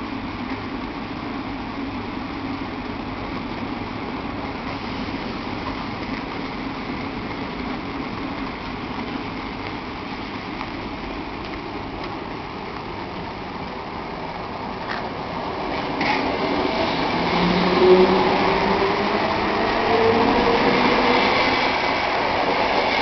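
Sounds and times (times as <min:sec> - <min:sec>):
electric train humming: 0:00.0 - 0:23.0.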